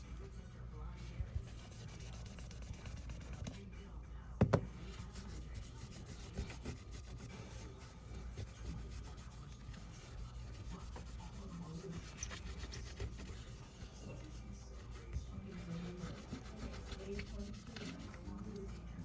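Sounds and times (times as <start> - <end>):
faint rubbing and scraping: 0.0 - 3.6, 4.8 - 19.0.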